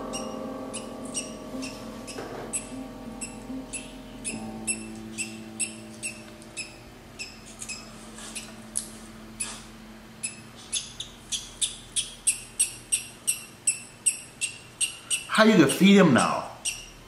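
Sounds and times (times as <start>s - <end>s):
parrot chick peeping: 0.0s - 15.3s, 16.2s - 17.0s.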